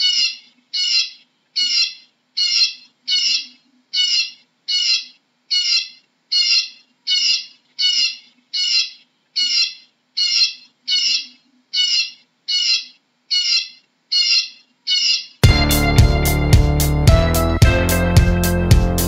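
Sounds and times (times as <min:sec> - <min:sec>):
bird harsh call: 0:00.0 - 0:16.4.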